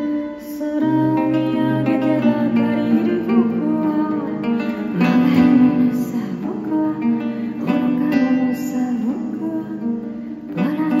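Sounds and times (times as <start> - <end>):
acoustic guitar fingerpicking: 0.0 - 11.0.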